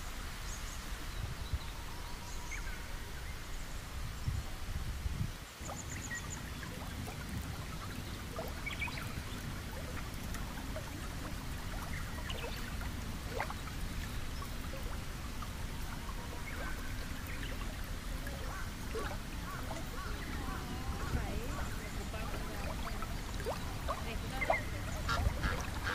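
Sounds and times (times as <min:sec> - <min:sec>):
stream water trickling: 0:00.0 - 0:25.9.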